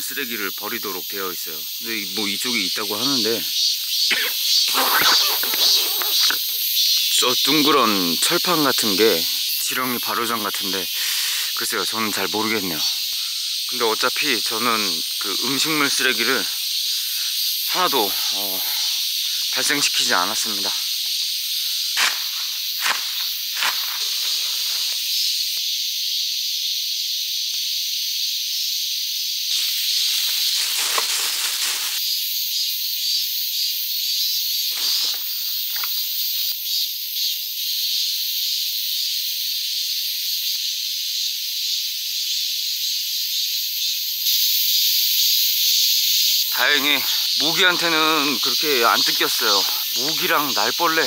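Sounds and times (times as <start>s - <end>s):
insect chorus buzzing: 0.0s - 51.0s.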